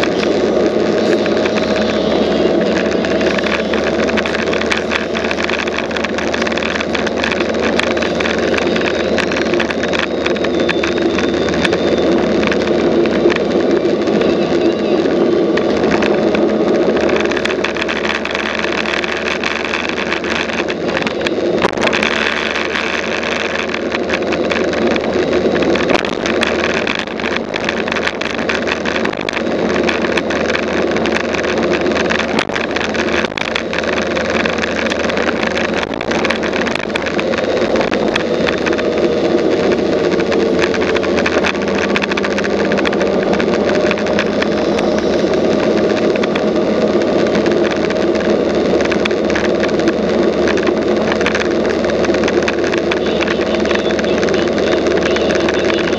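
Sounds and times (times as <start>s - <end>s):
motorbike engine running: 0.0s - 55.9s
road noise: 0.0s - 55.9s
wind: 0.0s - 55.9s.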